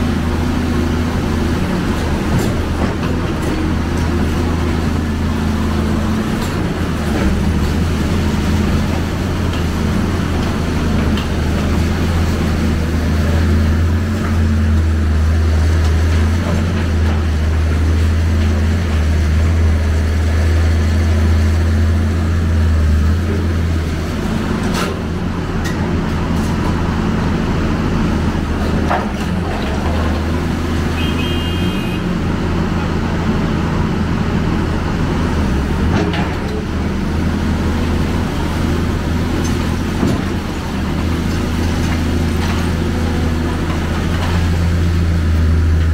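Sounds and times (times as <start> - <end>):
excavator diesel engine droning: 0.0 - 45.9.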